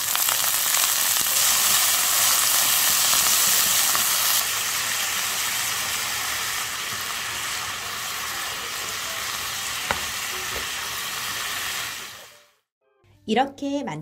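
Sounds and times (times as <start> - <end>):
food sizzling in a frying pan: 0.0 - 12.6.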